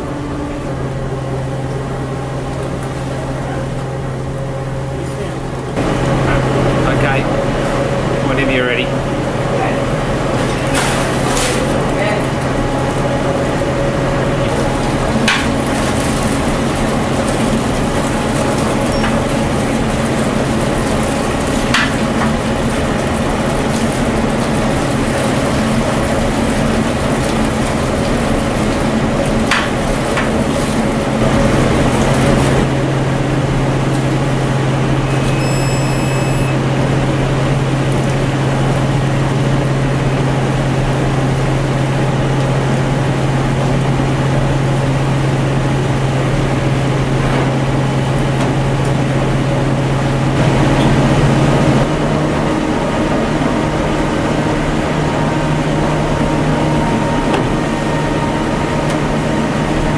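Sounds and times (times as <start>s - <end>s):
ship engines droning: 0.0s - 59.9s.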